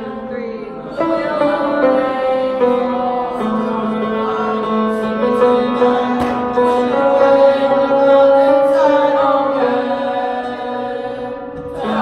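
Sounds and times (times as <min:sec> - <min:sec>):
choir singing held notes: 0:00.0 - 0:12.0.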